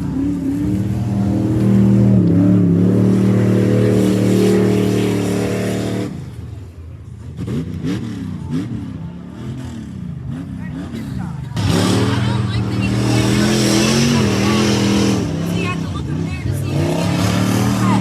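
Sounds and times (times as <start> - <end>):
engine revving up and down: 0.0 - 6.4, 7.2 - 18.0
truck engine running hard: 0.0 - 18.0.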